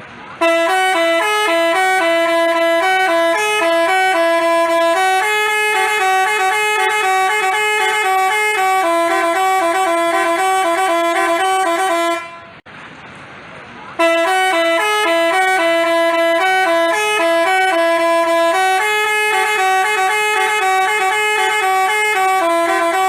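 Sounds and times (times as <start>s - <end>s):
bus horn playing melody: 0.3s - 12.6s, 14.0s - 23.0s.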